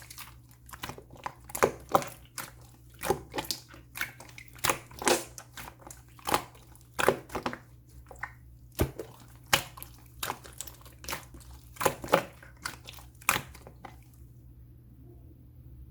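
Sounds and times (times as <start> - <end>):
slime squelching and popping: 0.0 - 14.2.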